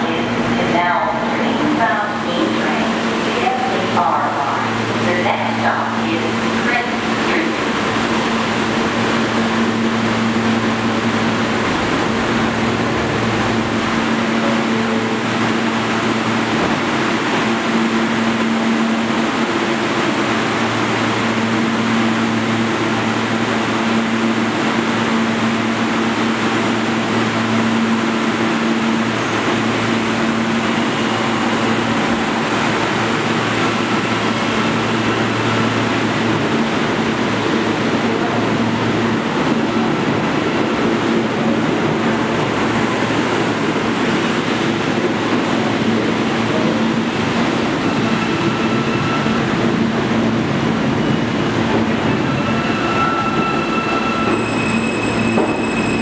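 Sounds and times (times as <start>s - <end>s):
train equipment humming: 0.0s - 56.0s.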